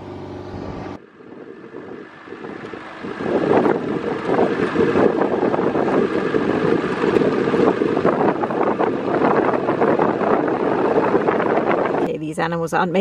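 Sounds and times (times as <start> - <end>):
vehicle engine: 0.0 - 12.2
road noise: 0.0 - 13.0
wind buffeting microphone: 0.0 - 13.0.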